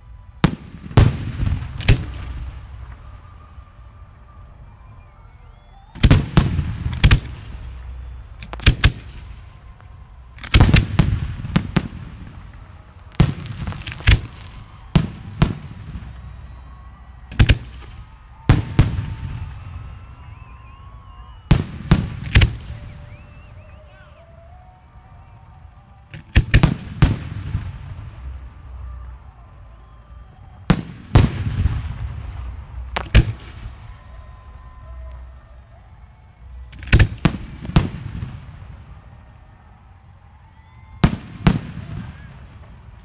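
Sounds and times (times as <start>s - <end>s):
echoing rumble: 0.0s - 43.0s
fireworks bursting: 0.0s - 43.0s.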